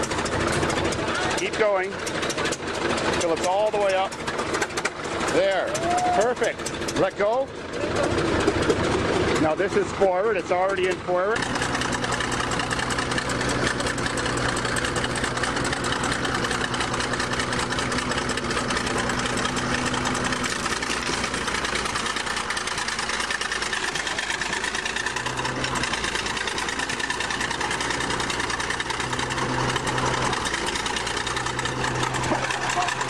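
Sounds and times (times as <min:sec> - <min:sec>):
bulldozer engine running: 0:00.0 - 0:33.0.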